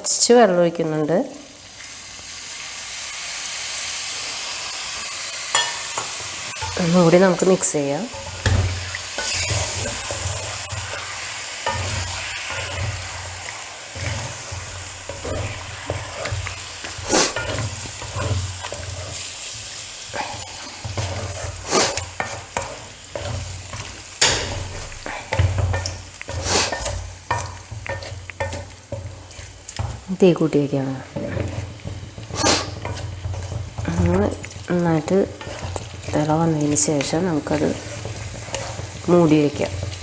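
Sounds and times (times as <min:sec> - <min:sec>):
wet sizzle: 0:00.0 - 0:40.0
spoon scraping a pan: 0:04.4 - 0:40.0
spoon clanking on pan: 0:05.5 - 0:30.2, 0:31.1 - 0:40.0.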